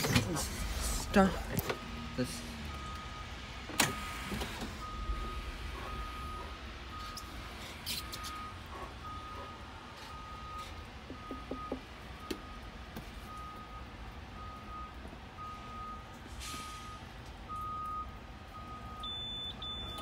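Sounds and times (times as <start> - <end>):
dashboard warning beeps: 0.0 - 20.0.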